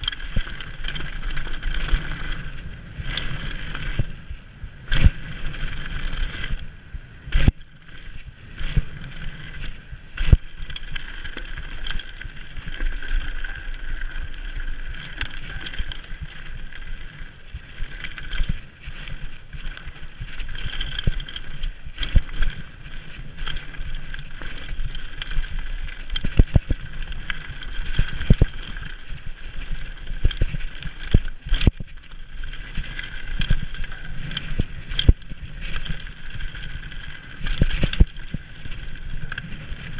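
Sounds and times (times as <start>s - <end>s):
wheels knocking on rocks: 0.0s - 4.2s, 4.8s - 39.9s
bike tyres rattling on gravel: 0.0s - 39.9s.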